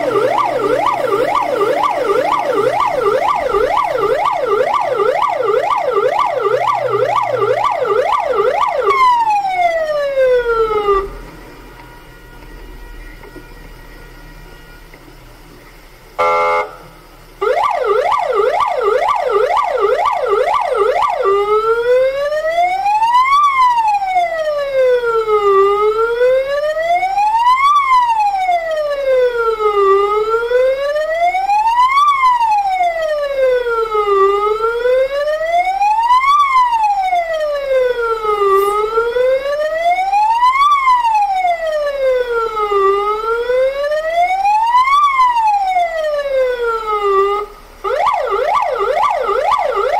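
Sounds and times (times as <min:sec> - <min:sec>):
fire engine siren: 0:00.0 - 0:49.9.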